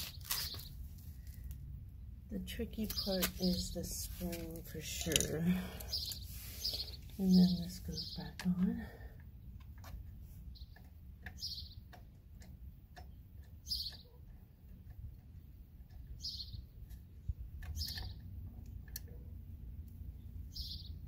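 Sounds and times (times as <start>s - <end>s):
birds chirping: 0.0s - 14.4s, 15.8s - 17.0s, 17.6s - 19.2s, 20.0s - 21.0s.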